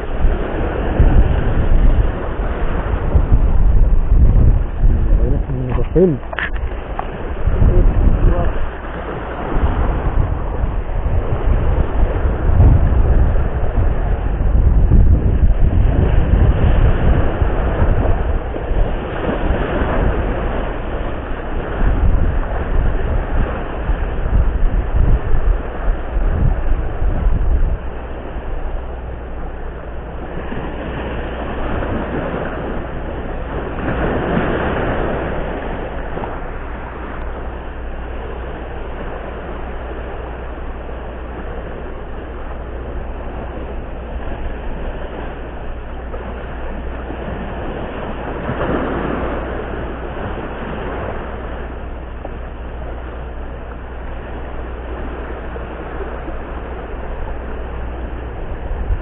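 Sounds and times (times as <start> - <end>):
low rumble: 0.0 - 59.0
waves breaking on rocks: 0.0 - 59.0.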